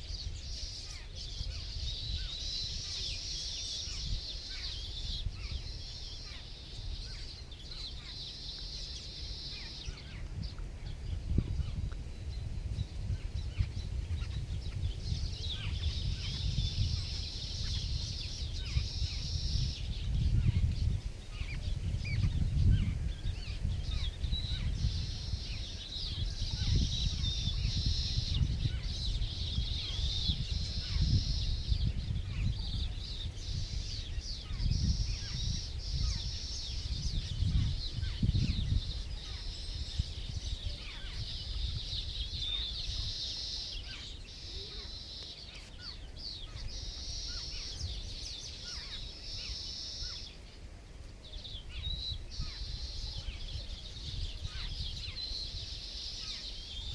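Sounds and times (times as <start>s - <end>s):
birds chirping and calling: 0.1s - 50.6s, 51.2s - 56.9s.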